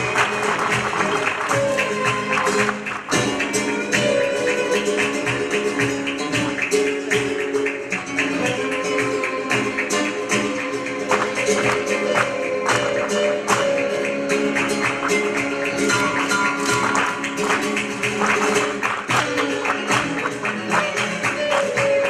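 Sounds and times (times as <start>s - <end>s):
flamenco guitar: 0.0s - 22.0s
rapid sharp percussive strikes: 0.0s - 22.0s.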